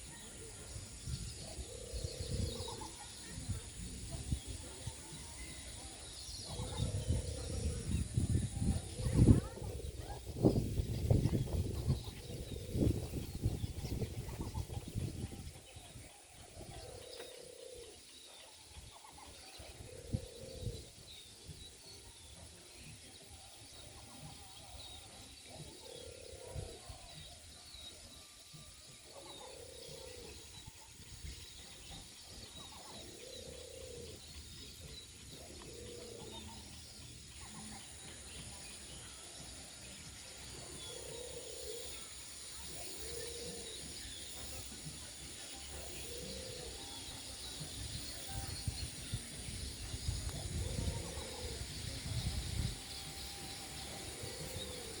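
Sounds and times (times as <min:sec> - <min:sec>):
flock of birds chirping: 0:00.0 - 0:55.0.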